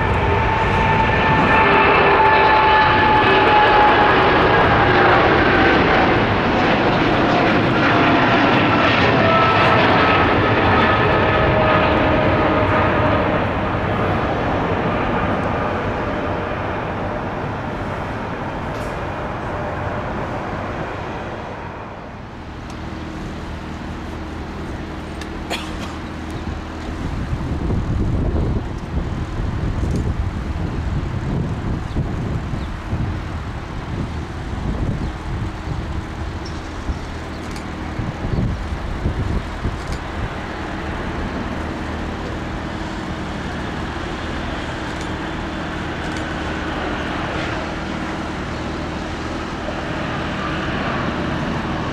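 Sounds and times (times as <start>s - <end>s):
jet engines roaring at take-off: 0.0s - 51.9s
landing jet low rumble: 0.0s - 51.9s.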